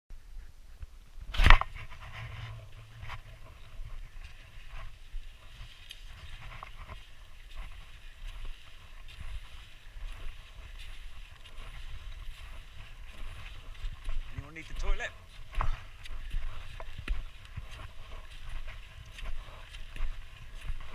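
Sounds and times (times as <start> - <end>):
wind rumbling on microphone: 0.1 - 20.9.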